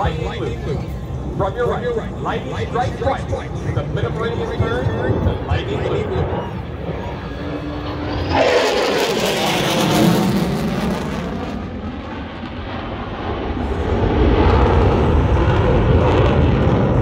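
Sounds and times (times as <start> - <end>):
jet roaring past: 0.0 - 17.0.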